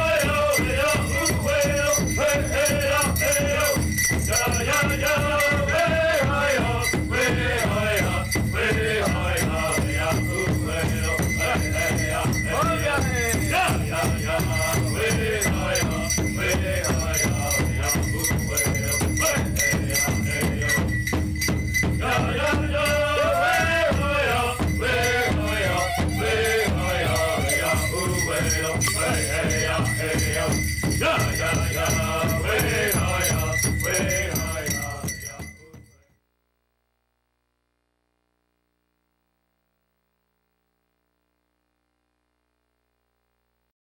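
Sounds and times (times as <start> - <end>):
large drum beat: 0.0 - 35.6
men singing in unison: 0.0 - 35.9
bells jingling: 0.0 - 36.1.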